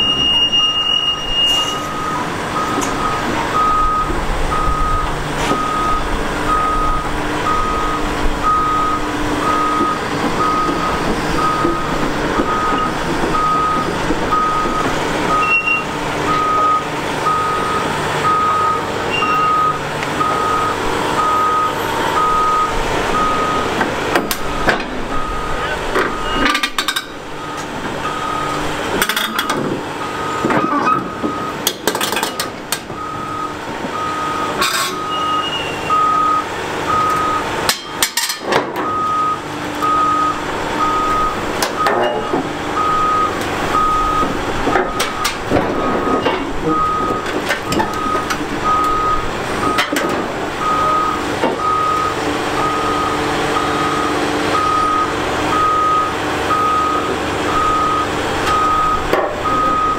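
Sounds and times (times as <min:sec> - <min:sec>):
steel tracks clanking: 0:00.0 - 0:36.1, 0:36.8 - 0:39.1, 0:40.5 - 0:53.7
diesel engine running: 0:00.0 - 0:59.9
excavator travel alarm beeping: 0:00.0 - 0:59.9.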